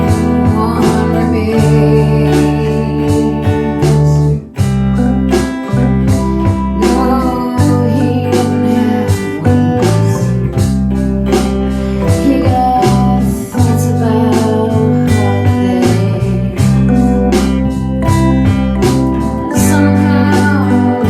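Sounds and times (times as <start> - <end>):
person singing: 0.0 - 10.6, 11.8 - 21.0
band playing a song: 0.0 - 21.0.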